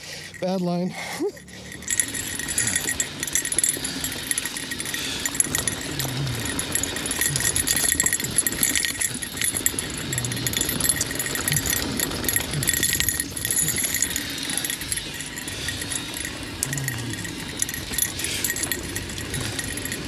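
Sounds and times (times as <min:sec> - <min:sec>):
bike chain rattling and jingling: 0:00.0 - 0:20.0.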